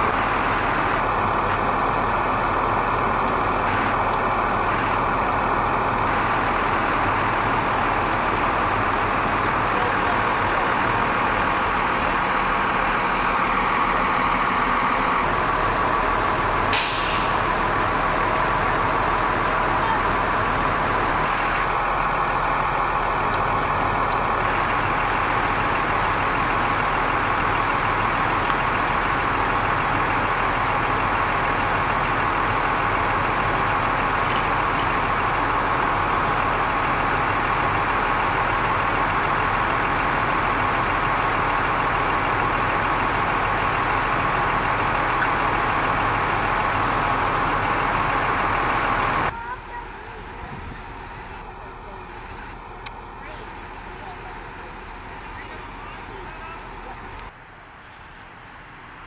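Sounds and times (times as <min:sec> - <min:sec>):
fire engine running: 0:00.0 - 0:59.0.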